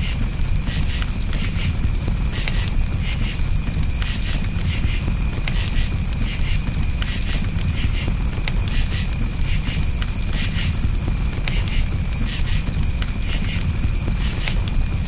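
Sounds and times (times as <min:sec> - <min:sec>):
campfire crackling: 0:00.0 - 0:15.0
crickets chirping: 0:00.0 - 0:15.0.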